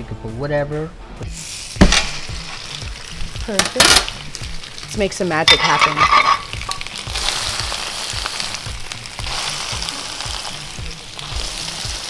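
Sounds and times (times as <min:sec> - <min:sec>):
background music with low beat: 0:00.0 - 0:12.0
meat sizzling on a griddle: 0:01.3 - 0:12.0.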